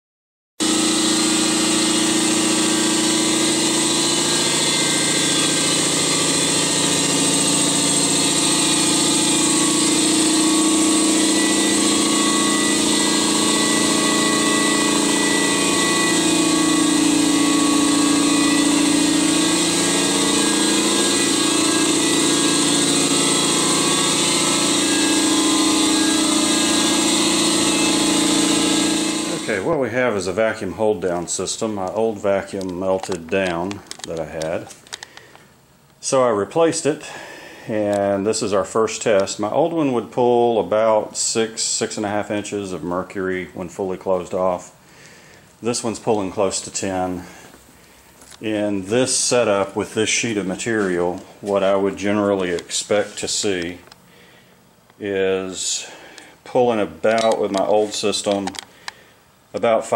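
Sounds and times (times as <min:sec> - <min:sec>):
vacuum pump motor humming: 0:00.6 - 0:38.3, 0:44.0 - 0:59.9.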